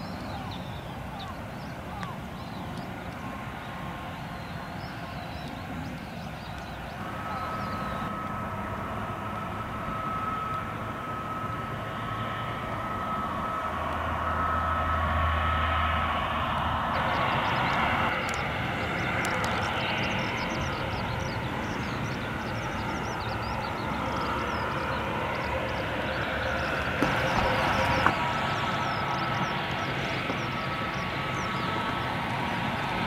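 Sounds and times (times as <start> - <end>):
jet engine whine: 0.0 - 33.0
low hum: 0.0 - 33.0.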